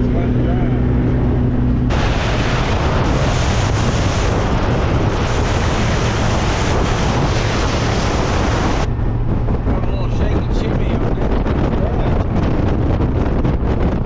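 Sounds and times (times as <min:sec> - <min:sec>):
car engine droning: 0:00.0 - 0:13.7
wind buffeting microphone: 0:00.0 - 0:14.0.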